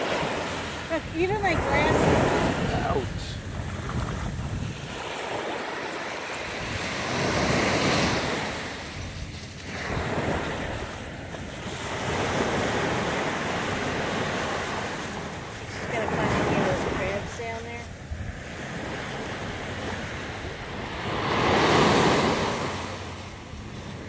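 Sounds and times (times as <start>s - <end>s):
ocean surf washing ashore: 0.0s - 24.0s
wind buffeting microphone: 0.0s - 24.0s.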